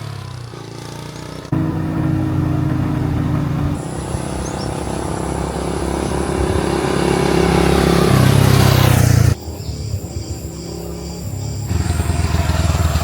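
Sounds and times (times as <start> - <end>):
heavier engine: 0.0 - 13.0
paving machinery engines running: 0.0 - 13.0.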